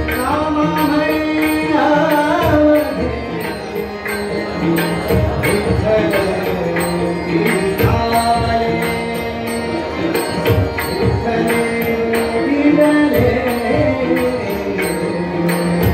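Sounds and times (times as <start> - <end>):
harmonium chords: 0.0 - 15.9
man singing: 0.0 - 15.9
tabla strokes: 0.0 - 15.9.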